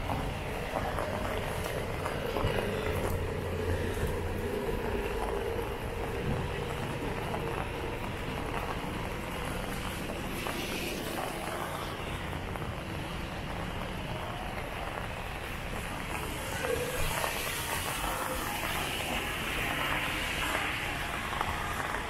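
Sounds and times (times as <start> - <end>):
distant traffic hum: 0.0 - 22.0
light rain on wet street: 0.0 - 22.0.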